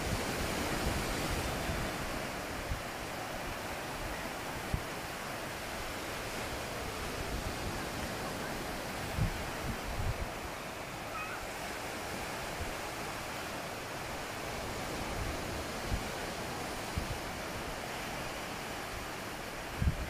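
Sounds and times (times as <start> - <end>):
sea surf rushing: 0.0 - 20.0.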